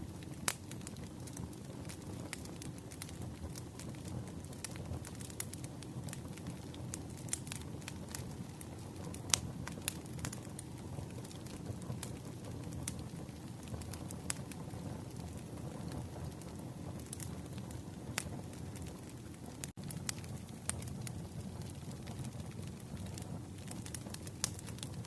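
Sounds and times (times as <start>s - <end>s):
wood campfire crackling: 0.0s - 25.0s.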